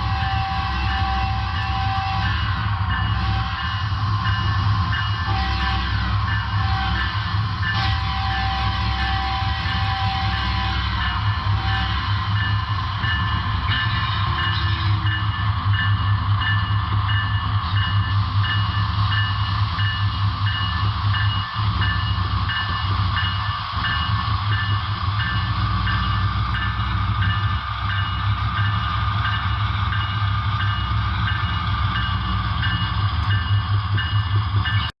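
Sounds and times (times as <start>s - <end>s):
diesel engine low rumble: 0.0s - 34.9s.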